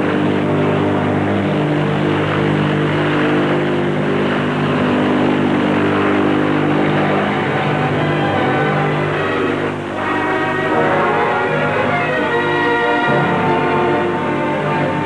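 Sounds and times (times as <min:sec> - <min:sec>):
turboprop engine droning: 0:00.0 - 0:15.0.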